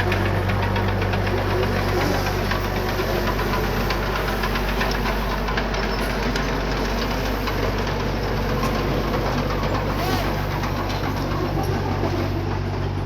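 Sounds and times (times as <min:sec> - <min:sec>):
diesel engine clattering: 0:00.0 - 0:13.0.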